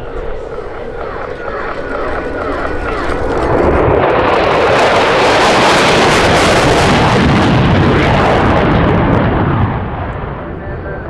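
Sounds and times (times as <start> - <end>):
jet afterburner roar with crackle: 0.0 - 11.0.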